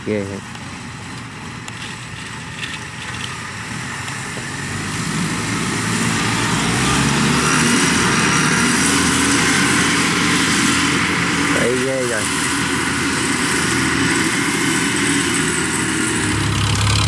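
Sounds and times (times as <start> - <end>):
tracked carrier engine running: 0.0 - 17.0.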